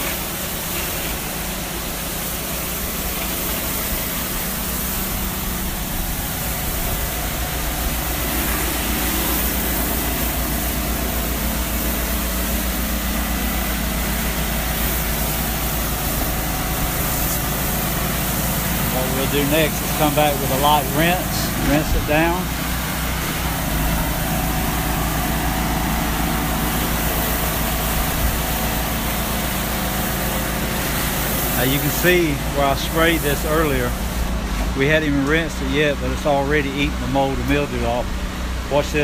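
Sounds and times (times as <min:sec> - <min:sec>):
hiss of water spray: 0:00.0 - 0:34.7
engine-driven pump running: 0:00.0 - 0:39.0.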